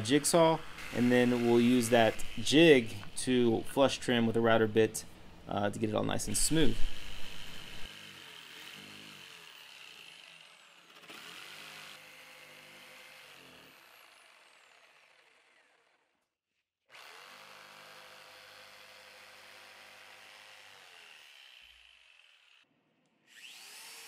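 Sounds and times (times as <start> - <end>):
jigsaw cutting wood: 0.0 - 3.6, 6.3 - 16.2, 16.9 - 24.0.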